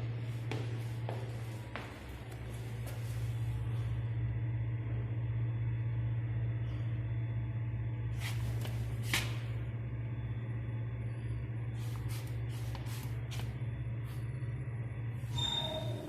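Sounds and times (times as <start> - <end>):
lift motor humming: 0.0 - 16.0.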